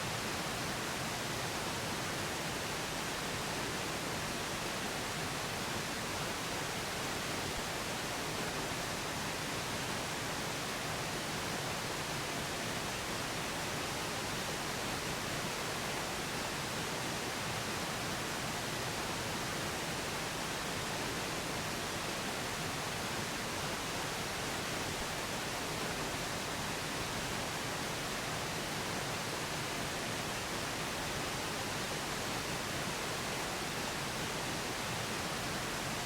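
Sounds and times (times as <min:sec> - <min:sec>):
pink noise hiss: 0:00.0 - 0:36.0.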